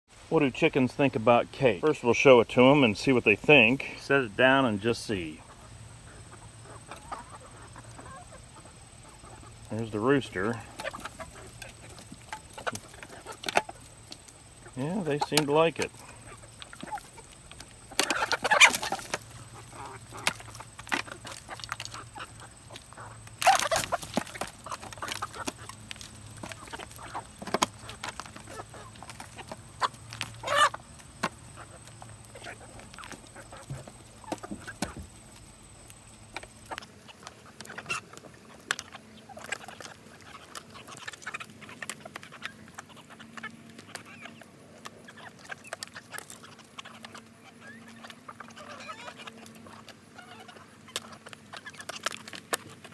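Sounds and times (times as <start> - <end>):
chickens clucking: 0.2 - 52.9
chickens pecking foil tray: 1.9 - 52.9.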